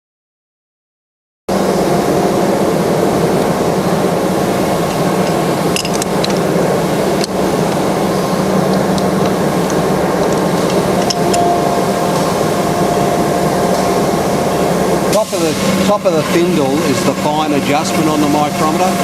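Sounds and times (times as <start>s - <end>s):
machinery humming: 1.5s - 19.0s.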